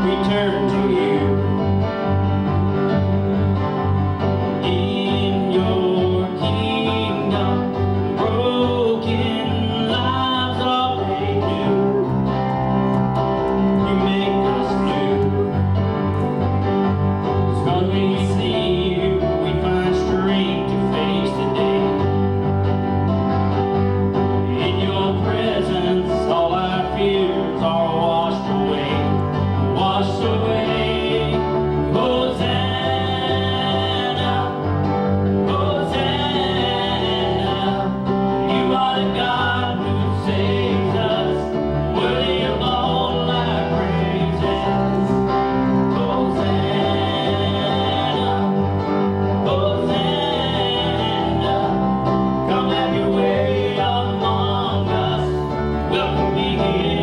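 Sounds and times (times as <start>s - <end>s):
band with guitar: 0.0s - 57.0s
bass line: 0.0s - 57.0s
gospel singing: 0.0s - 57.0s.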